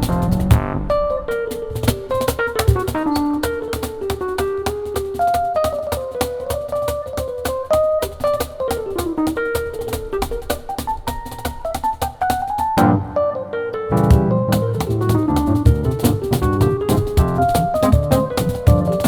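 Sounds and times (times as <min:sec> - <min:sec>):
percussion strokes: 0:00.0 - 0:13.0, 0:14.0 - 0:19.0
piano melody: 0:00.0 - 0:19.0.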